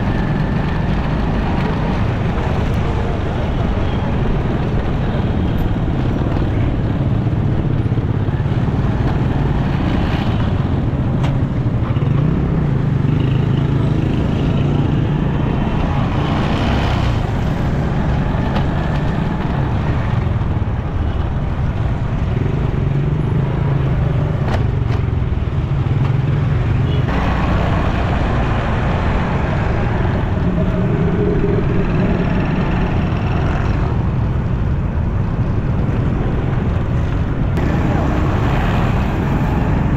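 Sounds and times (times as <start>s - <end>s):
surrounding traffic engines: 0.0s - 39.9s.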